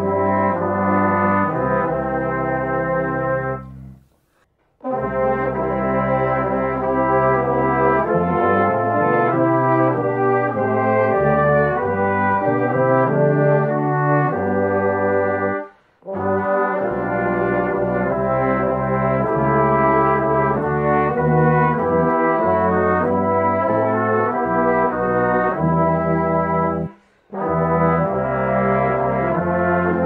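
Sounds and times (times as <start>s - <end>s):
brass band playing slow chords: 0.0s - 30.0s.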